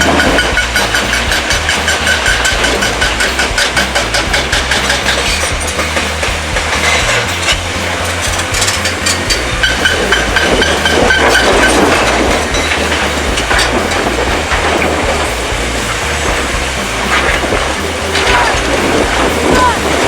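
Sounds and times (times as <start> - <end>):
machinery low rumble: 0.0 - 20.0
rhythmic metallic clanking: 0.0 - 20.0.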